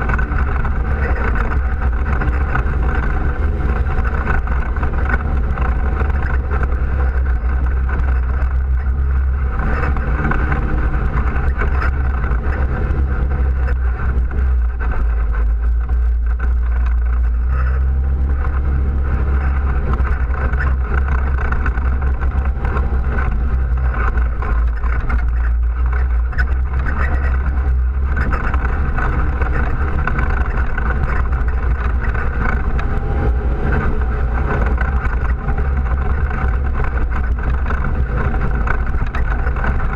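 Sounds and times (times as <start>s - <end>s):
atv engine droning: 0.0s - 39.9s
rattle: 0.0s - 39.9s.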